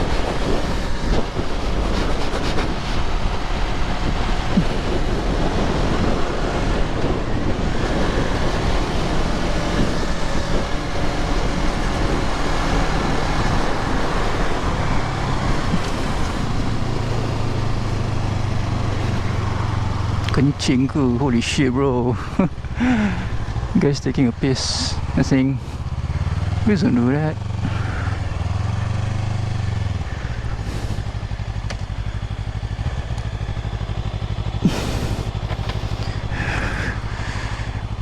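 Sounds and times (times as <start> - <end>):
wind rushing on microphone: 0.0 - 33.9, 34.6 - 38.0
motorcycle engine running: 0.0 - 38.0.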